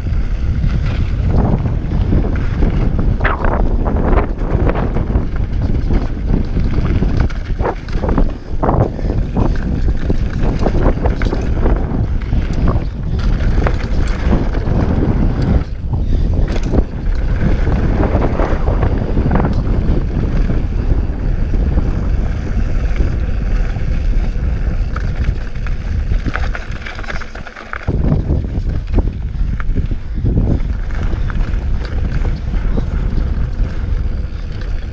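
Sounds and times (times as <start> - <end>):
bike knocks and rattles: 0.0 - 34.9
tyres on loose gravel: 0.0 - 34.9
wind rumble on microphone: 0.0 - 34.9.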